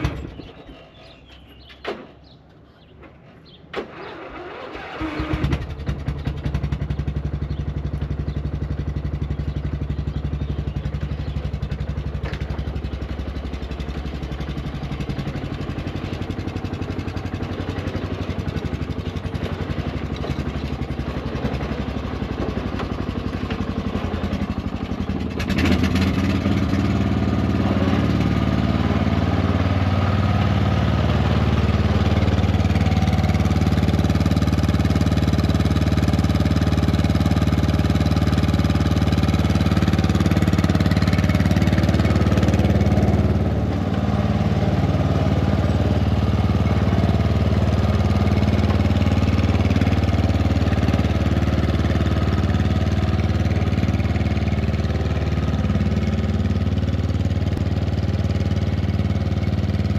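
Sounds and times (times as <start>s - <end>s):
riding lawn mower engine: 0.0s - 59.9s.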